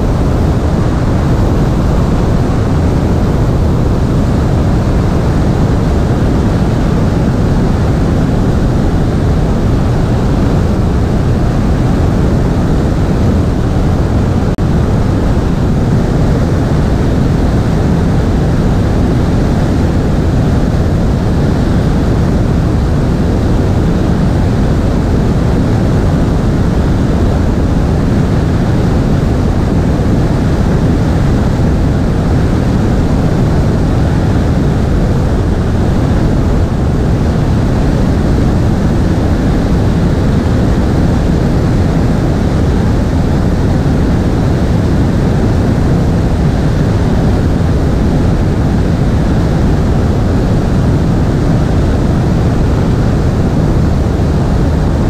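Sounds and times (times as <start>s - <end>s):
aircraft engine and propeller: 0.0s - 55.0s
airflow rushing: 0.0s - 55.0s.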